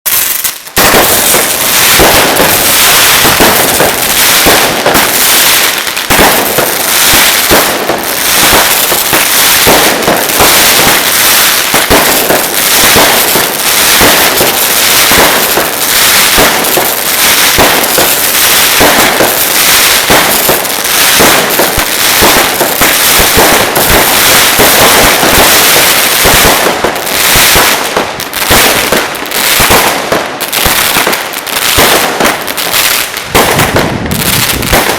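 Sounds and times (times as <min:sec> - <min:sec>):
firecracker bangs and crackle: 0:00.1 - 0:34.9.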